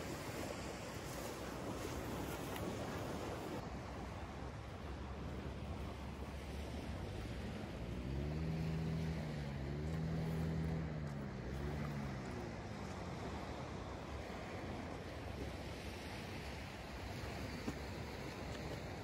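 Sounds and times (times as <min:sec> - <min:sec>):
engine hum passing by: 0:00.0 - 0:19.0
surf: 0:00.0 - 0:19.0
wind: 0:00.0 - 0:19.0.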